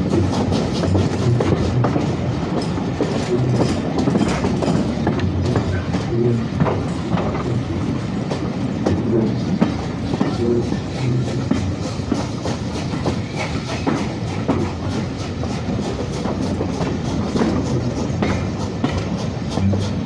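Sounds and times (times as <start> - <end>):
train rumbling on track: 0.0 - 20.0
wheels clicking over rail joints: 0.0 - 20.0.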